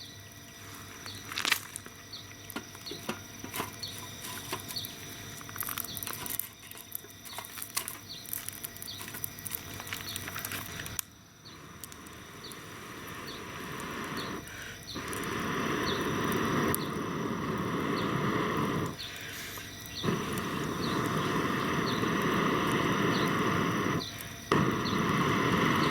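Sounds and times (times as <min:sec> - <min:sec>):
firewood crackling and popping: 0:00.8 - 0:25.9.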